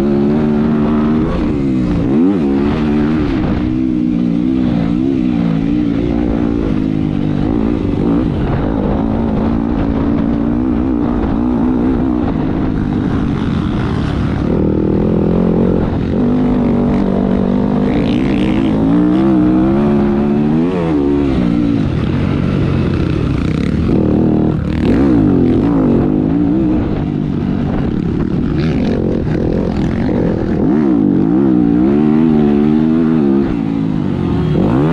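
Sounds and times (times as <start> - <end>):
motocross bike engine revving: 0.0 - 34.9.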